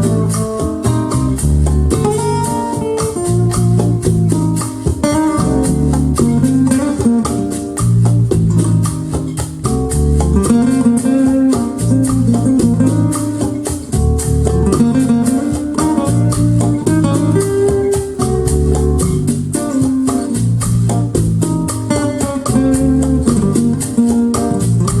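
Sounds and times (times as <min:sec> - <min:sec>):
jazz-fusion music on loudspeakers: 0:00.0 - 0:25.0.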